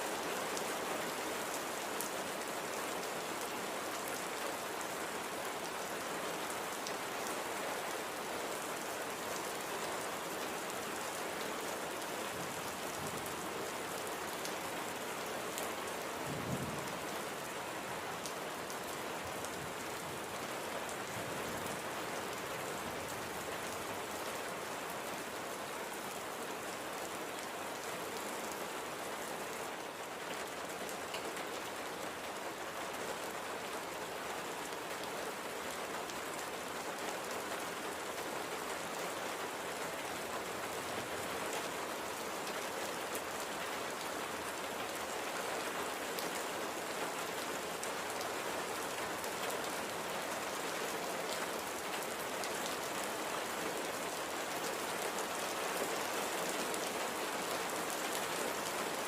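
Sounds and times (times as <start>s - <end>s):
light rain falling: 0.0s - 59.0s.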